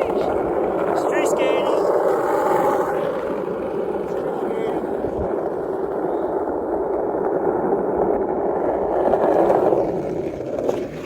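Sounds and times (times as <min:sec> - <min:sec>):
skateboard wheels rolling on pavement: 0:00.0 - 0:11.0.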